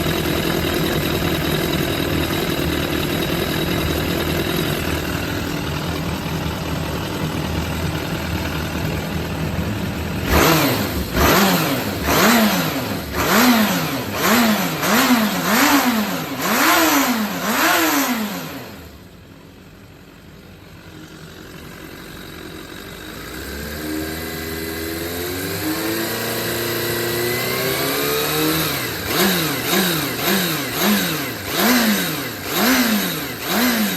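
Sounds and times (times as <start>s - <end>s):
motorcycle engine revving: 0.0s - 19.2s, 21.2s - 33.9s.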